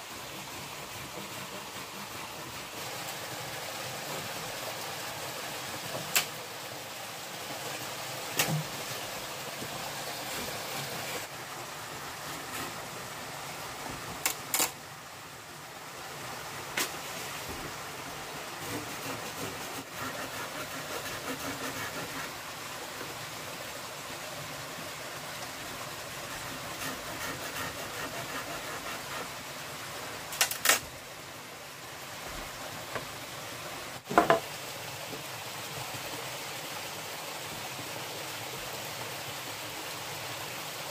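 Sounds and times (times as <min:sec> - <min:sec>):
small stream rushing: 0:00.0 - 0:40.9.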